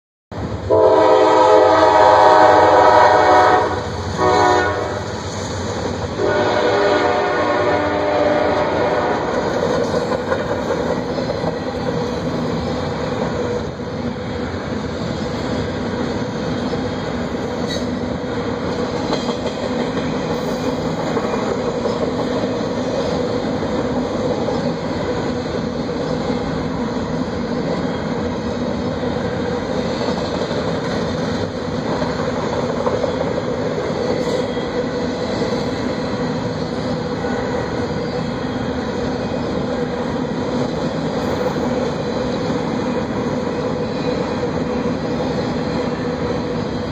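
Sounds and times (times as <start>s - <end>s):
freight train wheels rumbling: 0.3s - 46.9s.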